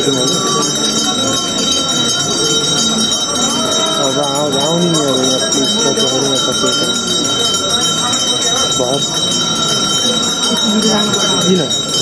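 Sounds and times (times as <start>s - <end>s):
bells ringing: 0.0s - 12.0s
voices singing a devotional chant: 0.0s - 12.0s.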